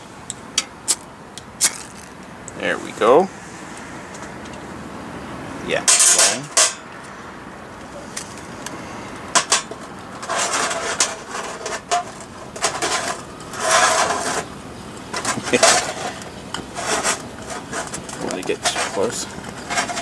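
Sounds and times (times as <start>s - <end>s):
scraping clattering rustles: 0.0s - 4.8s, 5.7s - 7.2s, 7.8s - 20.0s.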